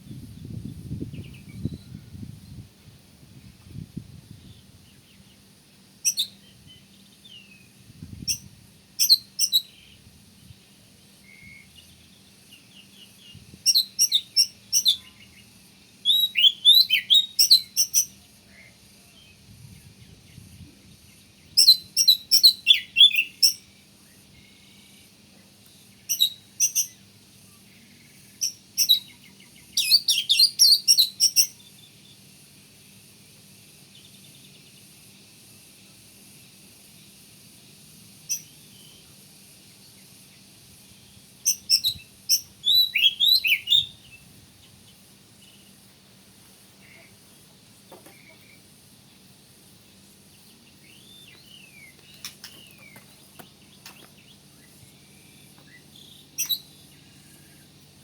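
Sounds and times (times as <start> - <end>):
bird singing: 0.0 - 2.6, 4.4 - 32.3, 33.9 - 35.2, 38.2 - 45.9, 46.8 - 49.3, 50.0 - 58.0.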